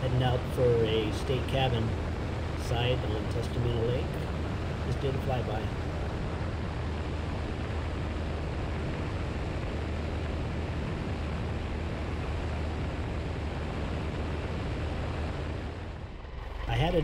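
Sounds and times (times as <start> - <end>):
airflow rushing over microphone: 0.0 - 17.0
propeller plane engine droning: 0.0 - 17.0.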